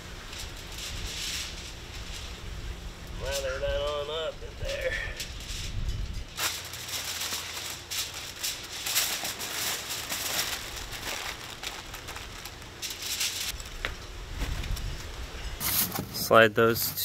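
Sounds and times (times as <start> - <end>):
aluminium foil crinkling: 0.0 - 15.2.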